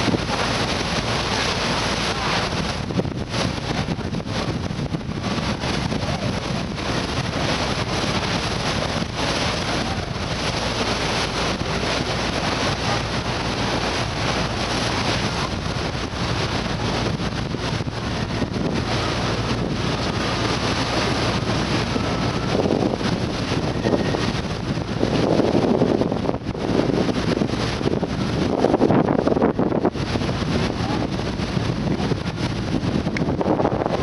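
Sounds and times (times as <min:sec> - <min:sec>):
ship engine drone: 0:00.0 - 0:34.0
wind buffeting microphone: 0:00.0 - 0:34.0.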